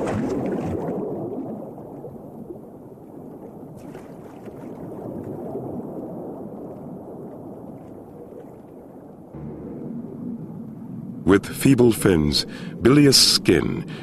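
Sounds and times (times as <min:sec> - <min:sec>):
underwater rush and gurgle: 0:00.0 - 0:14.0.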